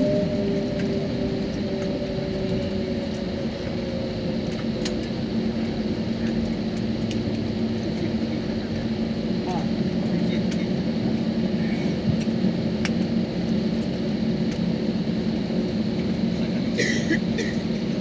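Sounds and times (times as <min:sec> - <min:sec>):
jet engines rumbling in cabin: 0:00.0 - 0:18.0
low engine hums: 0:00.0 - 0:18.0.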